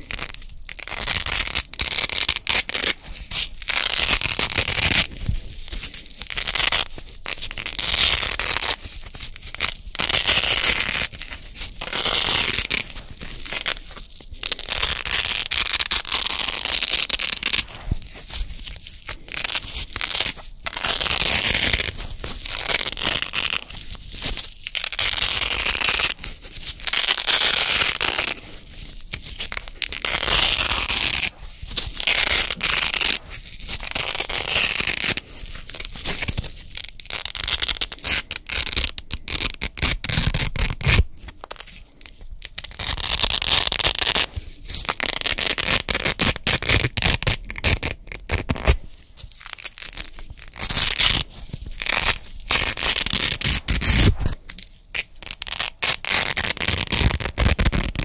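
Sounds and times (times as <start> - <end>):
velcro ripping apart: 0.0 - 58.0.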